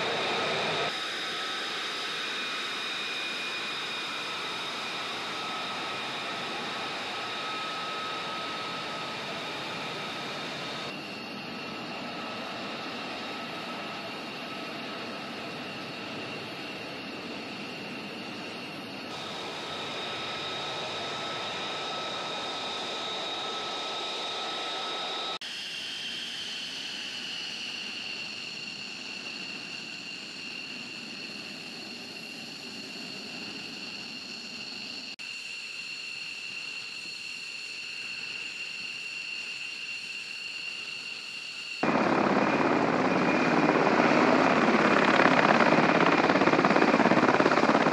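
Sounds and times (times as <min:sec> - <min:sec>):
high jet whine: 0:00.0 - 0:35.2, 0:38.0 - 0:47.9
jet turbine hiss: 0:00.0 - 0:47.9.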